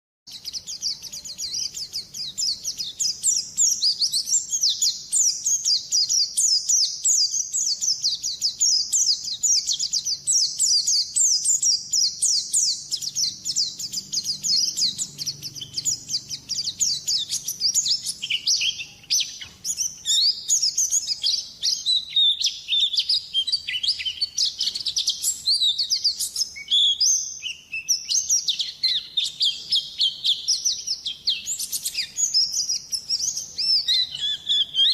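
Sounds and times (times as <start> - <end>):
songbird twittering: 0.3 - 34.9.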